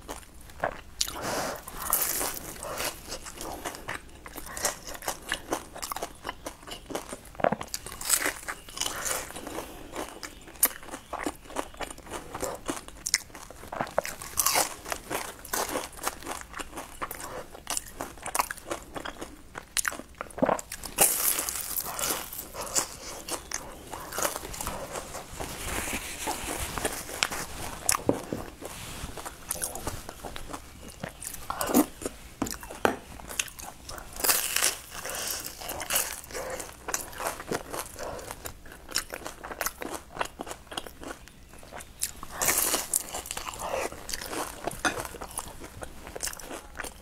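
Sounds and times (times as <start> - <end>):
crunching and chewing crispy pastry: 0.0 - 47.0.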